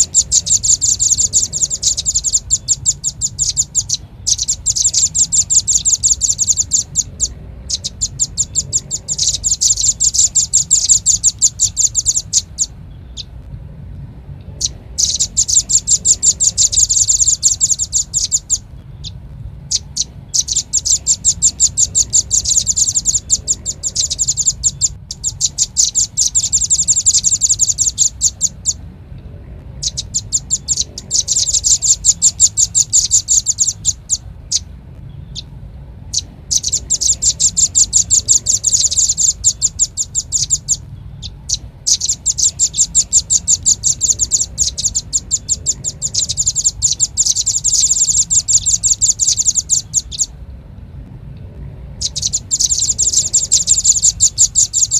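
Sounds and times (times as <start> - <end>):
bird calling in high trills: 0.0 - 13.4, 14.4 - 28.9, 29.7 - 50.4, 52.0 - 54.9.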